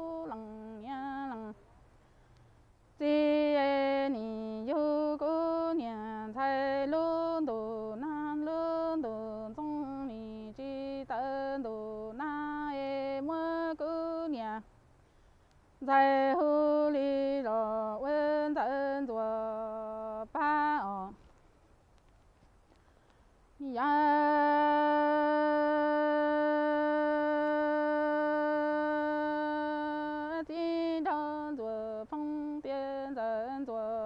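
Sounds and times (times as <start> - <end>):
woman singing unaccompanied: 0.0 - 1.8, 2.9 - 14.8, 15.8 - 21.3, 23.6 - 34.0.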